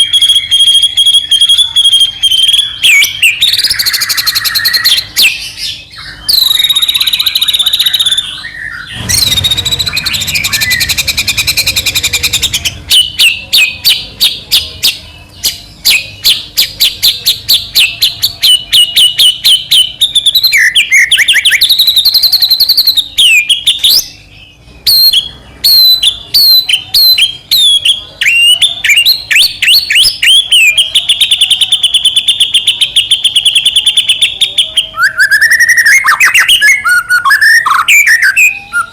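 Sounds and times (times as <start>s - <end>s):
bird singing whistled trills: 0.0s - 38.9s.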